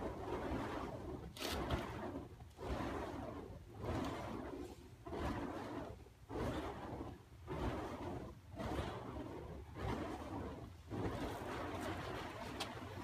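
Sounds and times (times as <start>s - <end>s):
fire poi whooshing: 0.0s - 13.0s.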